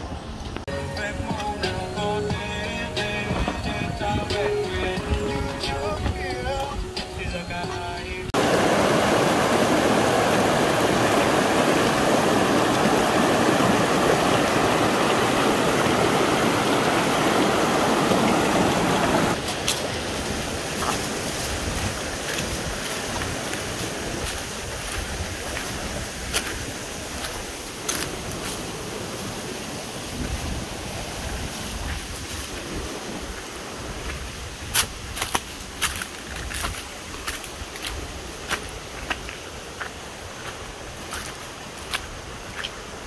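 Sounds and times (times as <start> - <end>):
stream rushing over boulders: 0.0 - 43.0.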